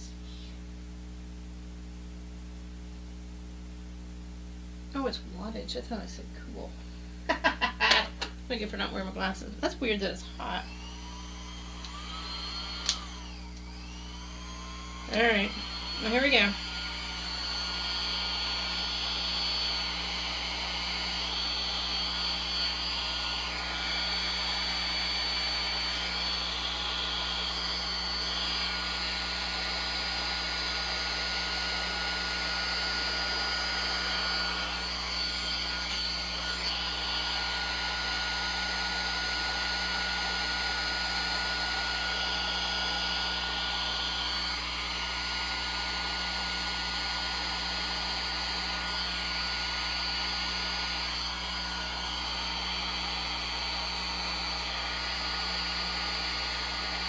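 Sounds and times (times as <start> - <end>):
blow dryer running: 4.9 - 57.0.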